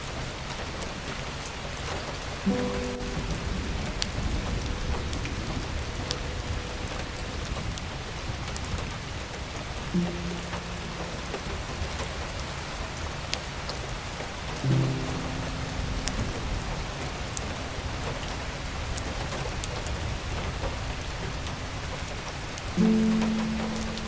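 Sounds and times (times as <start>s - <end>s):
soft background music: 2.4s - 24.0s.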